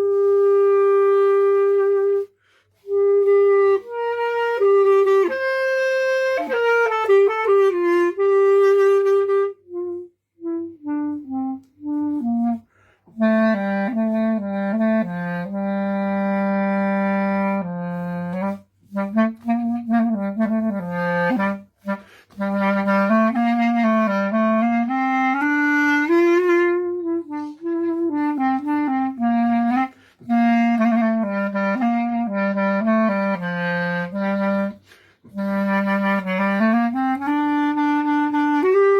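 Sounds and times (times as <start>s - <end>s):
solo wind instrument melody: 0.0s - 38.9s.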